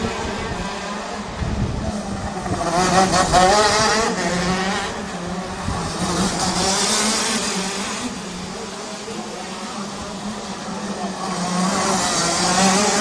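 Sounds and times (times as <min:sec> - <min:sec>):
kart engine revving: 0:00.0 - 0:13.0.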